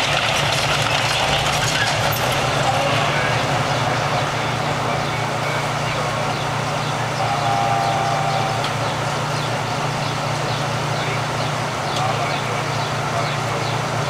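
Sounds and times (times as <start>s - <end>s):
steel tracks clattering: 0.0s - 14.0s
tank diesel engine droning: 0.0s - 14.0s.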